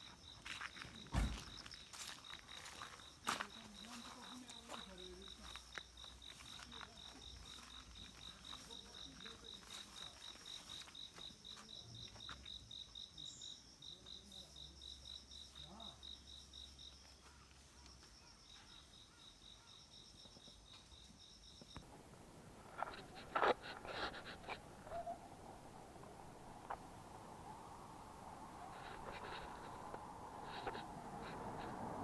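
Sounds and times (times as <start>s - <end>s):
faint insect chirping: 0.0s - 32.0s.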